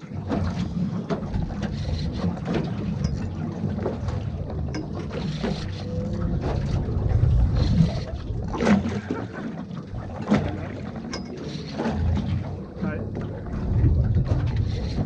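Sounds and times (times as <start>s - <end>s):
wind rumbling on microphone: 0.0s - 11.1s, 11.7s - 15.0s.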